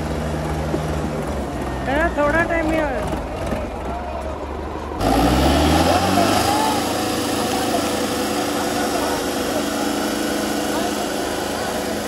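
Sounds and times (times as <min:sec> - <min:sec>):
crowd voices: 0:00.0 - 0:12.0
tractor engines revving under load: 0:00.0 - 0:12.0.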